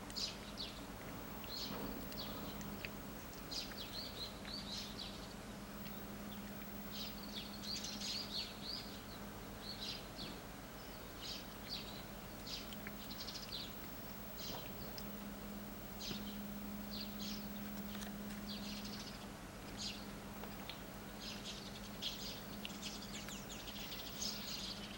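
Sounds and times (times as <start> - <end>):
small birds chirping: 0.0 - 24.9
steady low hum: 0.0 - 24.9.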